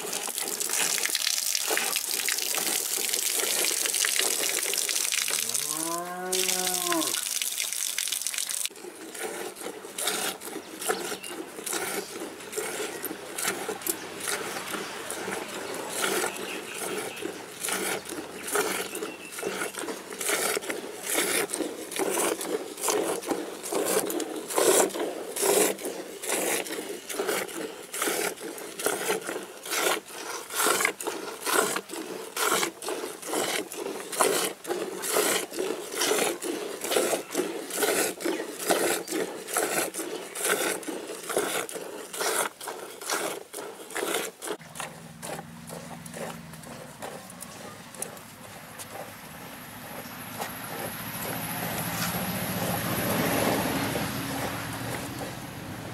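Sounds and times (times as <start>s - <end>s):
milk squirting into steel pot: 0.0s - 5.4s, 6.4s - 47.1s.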